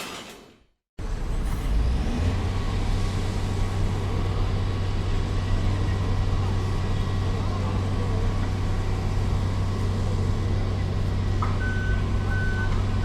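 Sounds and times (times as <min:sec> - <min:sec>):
deep low drone: 0:01.0 - 0:12.9
heavy engine rumbling: 0:01.0 - 0:13.0.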